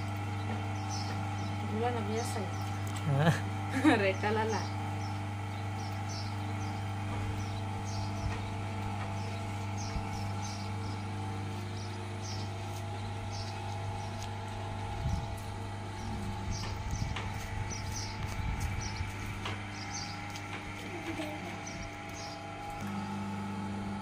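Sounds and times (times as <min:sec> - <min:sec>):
potter's wheel humming: 0:00.0 - 0:24.0.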